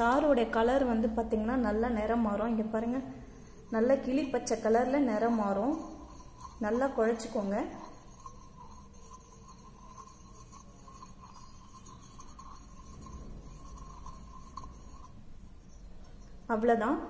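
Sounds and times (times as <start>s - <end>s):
thin high hum: 0.0s - 17.0s
paste stirred in a bowl: 2.5s - 16.5s.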